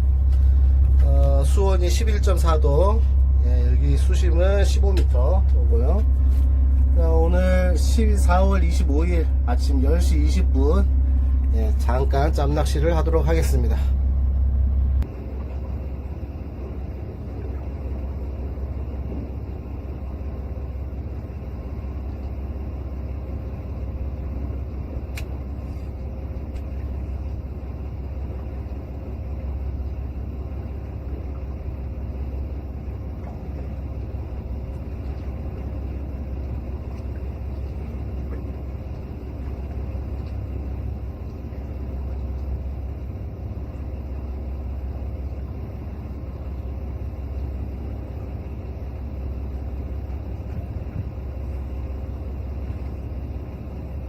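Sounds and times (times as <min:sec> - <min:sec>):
boat engine rumbling: 0:00.0 - 0:54.0.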